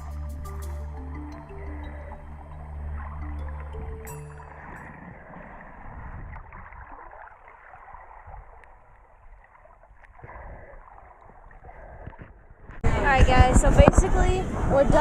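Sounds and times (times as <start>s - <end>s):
river water flowing and gurgling: 0.0s - 15.0s.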